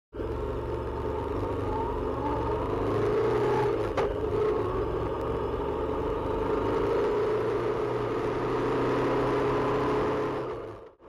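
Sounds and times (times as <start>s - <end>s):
motorcycle engine running: 0.2s - 10.8s.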